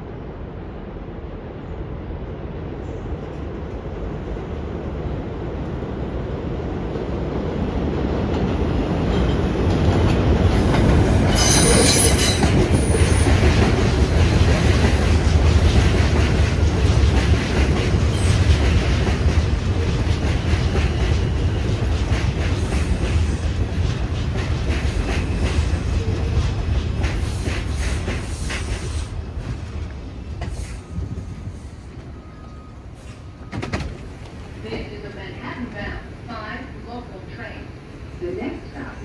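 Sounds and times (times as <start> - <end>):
subway train rumbling past: 0.0 - 39.0.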